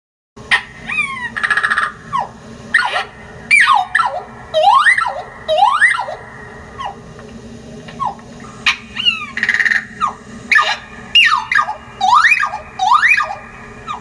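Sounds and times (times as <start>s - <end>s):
swooping bird whistles: 0.5s - 7.0s, 7.9s - 14.0s.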